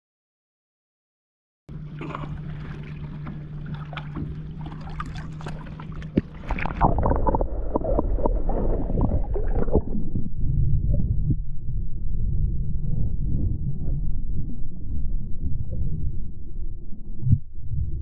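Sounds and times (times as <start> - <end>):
motorboat motor hum: 1.7 - 18.0
water splashing against hull: 1.7 - 18.0.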